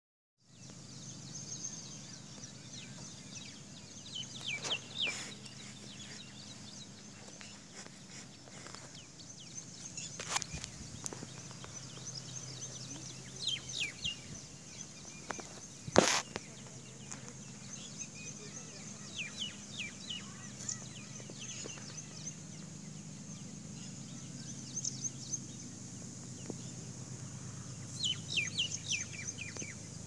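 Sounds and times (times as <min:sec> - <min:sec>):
birds chirping: 0:00.4 - 0:30.0
low steady hum: 0:00.5 - 0:30.0.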